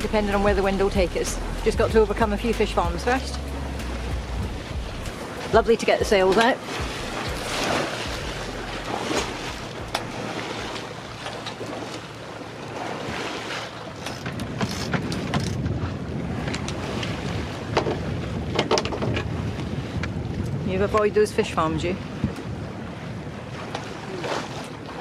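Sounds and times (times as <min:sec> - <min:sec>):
wind buffeting microphone: 0:00.0 - 0:11.0, 0:13.0 - 0:25.0
water rushing past hull: 0:00.0 - 0:25.0.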